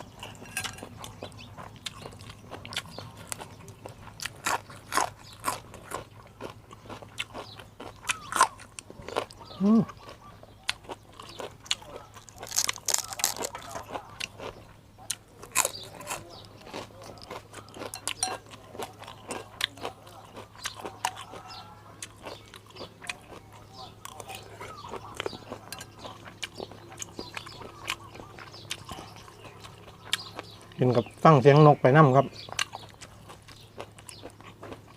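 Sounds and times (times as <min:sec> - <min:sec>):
person chewing crunchy food: 0:00.0 - 0:34.9.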